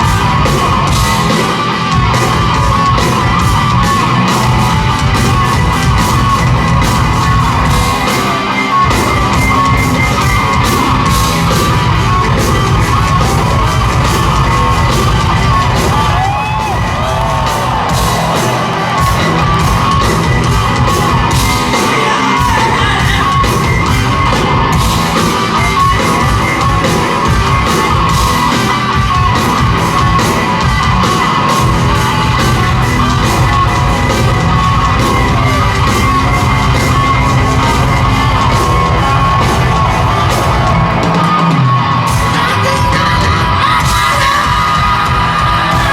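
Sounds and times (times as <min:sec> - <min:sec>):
crowd yelling and singing: 0:00.0 - 0:45.9
live rock band: 0:00.0 - 0:45.9.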